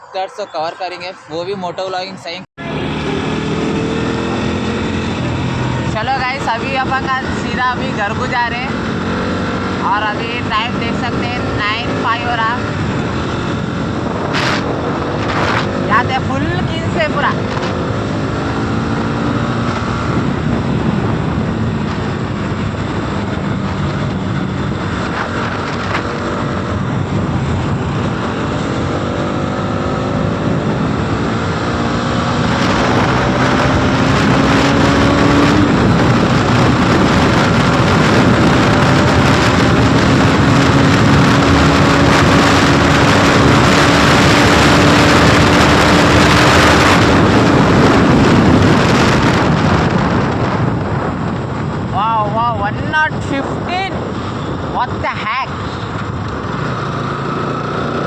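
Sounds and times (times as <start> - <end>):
wind rush on microphone: 0.0 - 58.0
motorcycle engine at full throttle: 2.1 - 58.0.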